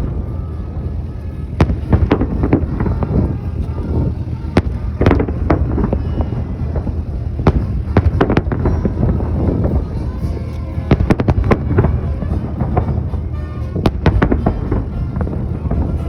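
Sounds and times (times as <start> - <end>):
fireworks bangs: 0.0 - 16.0
steady low rumble: 0.0 - 16.0.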